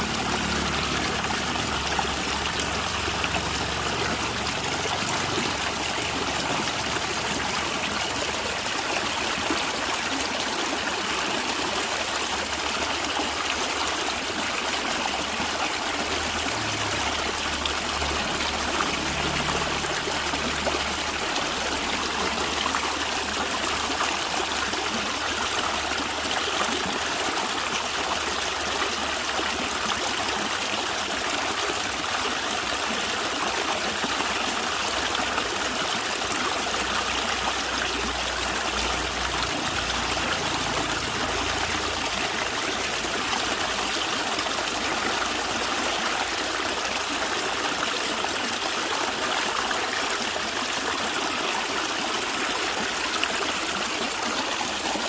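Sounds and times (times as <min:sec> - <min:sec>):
stream water gurgling: 0:00.0 - 0:55.0.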